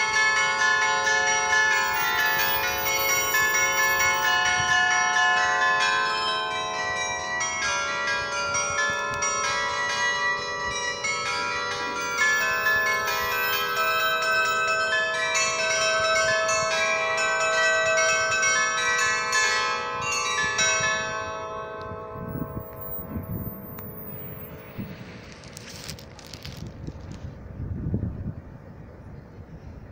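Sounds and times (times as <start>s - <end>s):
bells chiming a tune: 0.0s - 25.0s.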